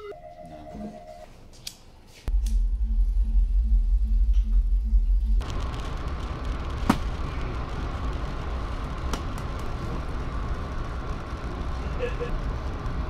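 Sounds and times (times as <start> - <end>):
traffic rumble: 2.3 - 13.0.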